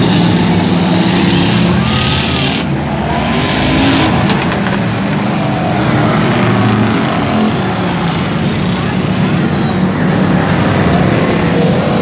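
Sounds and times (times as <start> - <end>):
race car engines drone: 0.0 - 12.0.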